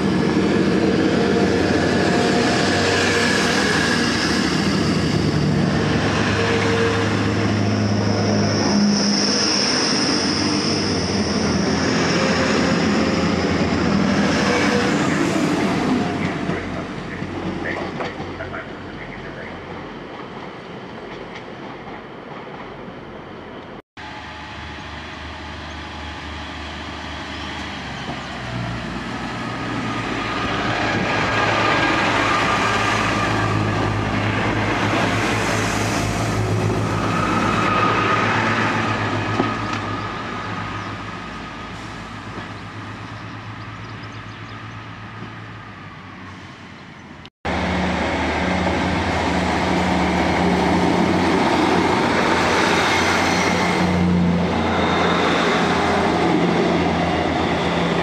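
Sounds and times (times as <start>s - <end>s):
diesel train engine hum: 0.0s - 58.0s
train running past: 0.0s - 58.0s.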